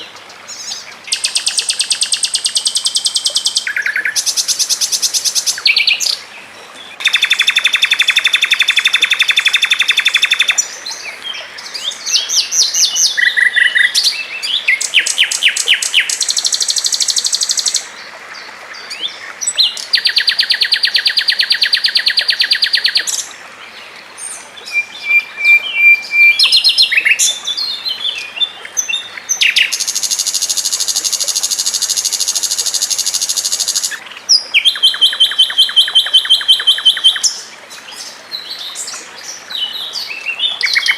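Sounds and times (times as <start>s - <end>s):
songbirds trilling and chattering: 0.0s - 40.9s.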